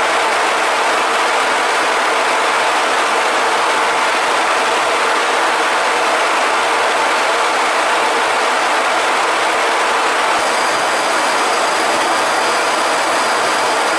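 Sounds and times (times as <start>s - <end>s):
jet cockpit engine and airflow noise: 0.1s - 13.9s.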